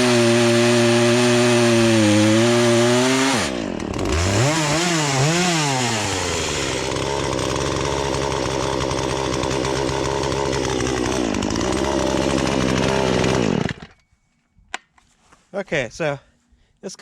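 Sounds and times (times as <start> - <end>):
chainsaw running at high revs: 0.0 - 14.0.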